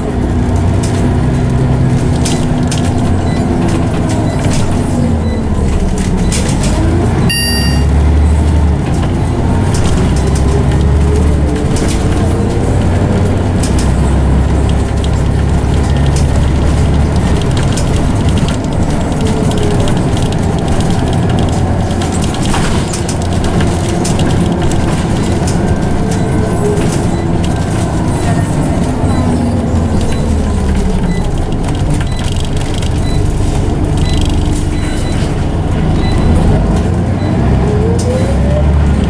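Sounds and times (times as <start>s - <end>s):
bus engine running: 0.0s - 39.0s.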